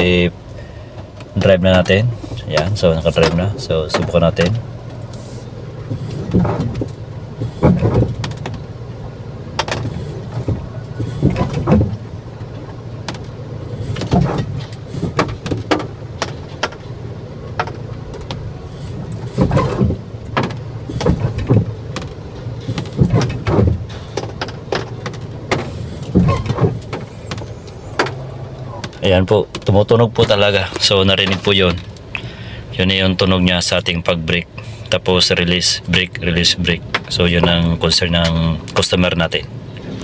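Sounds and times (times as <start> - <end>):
brakes squealing when pressed: 0.0 - 40.0
car running drone: 0.0 - 40.0.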